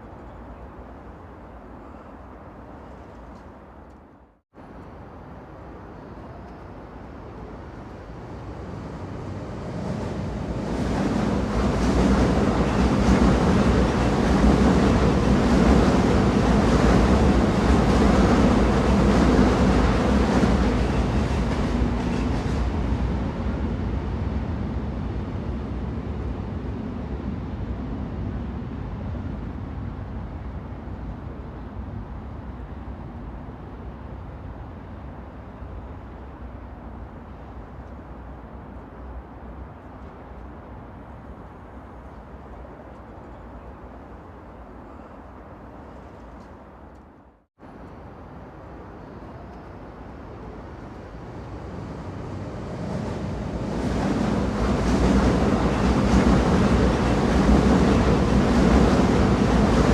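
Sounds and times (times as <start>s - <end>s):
train rumble: 2.7s - 59.9s.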